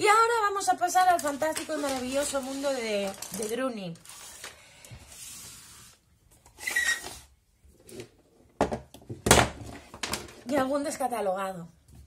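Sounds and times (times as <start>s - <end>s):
items rustling on a desk: 0.9s - 10.8s.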